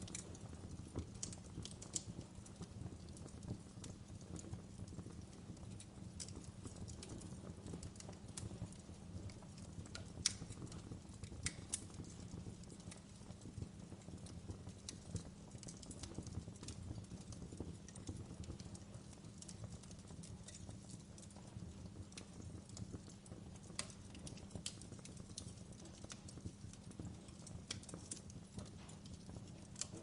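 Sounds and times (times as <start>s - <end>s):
log fire crackling: 0.0s - 30.0s.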